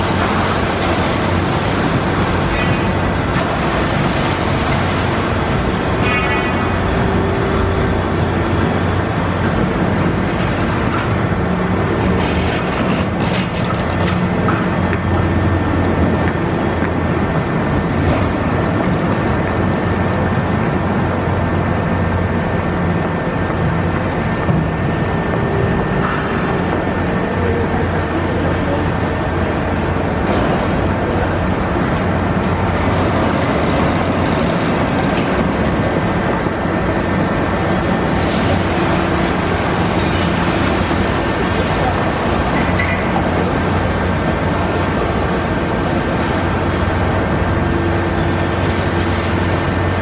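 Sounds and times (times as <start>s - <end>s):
excavator diesel engine humming: 0.0s - 50.0s.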